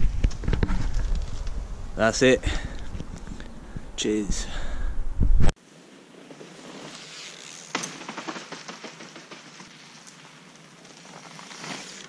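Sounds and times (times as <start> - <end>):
bike tyres crackling over leaves: 0.0 - 3.8, 5.6 - 12.0.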